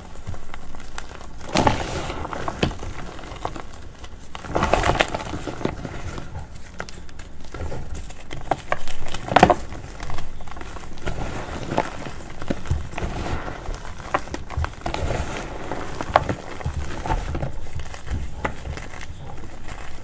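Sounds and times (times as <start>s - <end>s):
chalk chunks crunching and crumbling: 0.0s - 20.0s.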